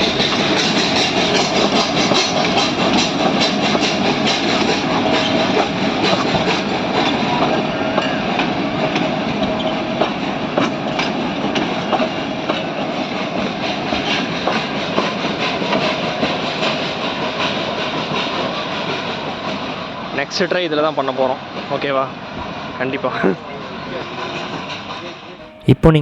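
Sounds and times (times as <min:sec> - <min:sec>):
train wheels clacking on rail joints: 0:00.0 - 0:22.7, 0:23.9 - 0:25.3.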